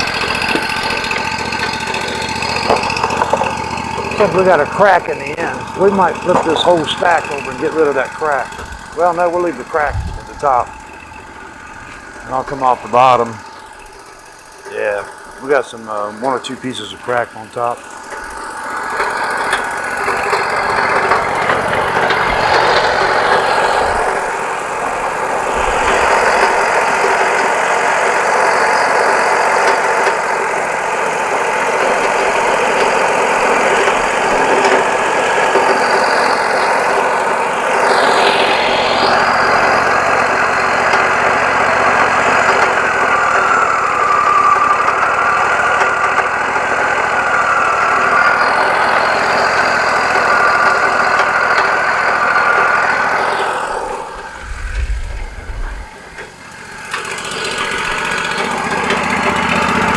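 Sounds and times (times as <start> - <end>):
sawmill engine running: 0.0 - 59.9
wavering whine: 0.0 - 59.9.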